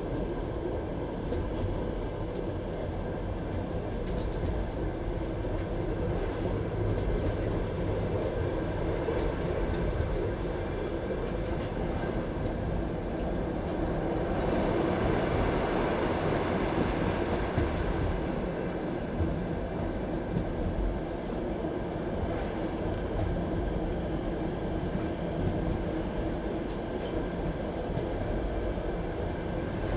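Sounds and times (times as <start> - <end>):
train wheels rumbling on rails: 0.0 - 29.9
light track clicks: 0.2 - 8.1, 9.0 - 29.9.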